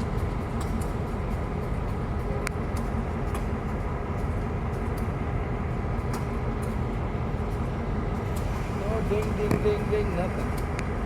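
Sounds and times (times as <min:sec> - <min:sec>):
sharp clicks from train cars: 0:00.0 - 0:11.0
train wheels rumbling on rail: 0:00.0 - 0:11.0.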